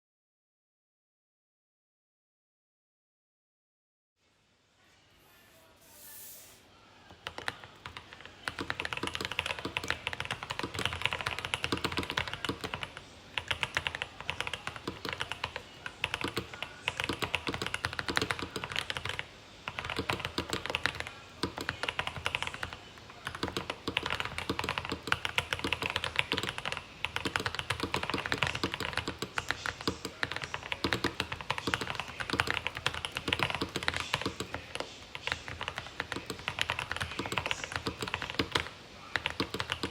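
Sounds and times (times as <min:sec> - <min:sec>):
mechanical keyboard typing: 0:07.2 - 0:39.9.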